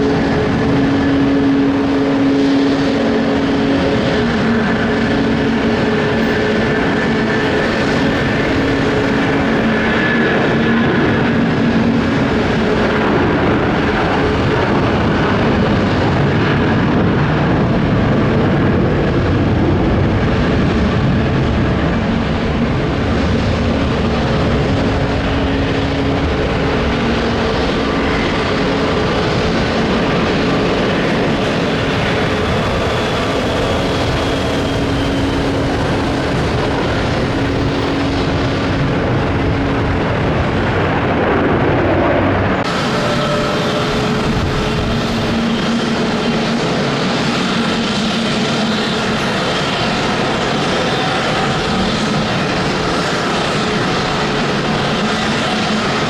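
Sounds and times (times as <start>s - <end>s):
jet engines at take-off: 0.0s - 56.0s.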